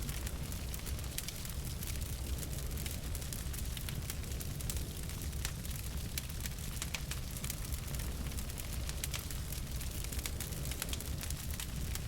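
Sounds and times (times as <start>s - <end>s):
fire pops and crackles: 0.0s - 12.0s
wood fire rumbling: 0.0s - 12.0s.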